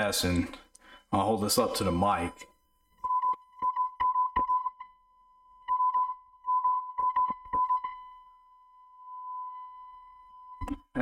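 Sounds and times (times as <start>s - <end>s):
speaker test tone: 1.6s - 11.0s.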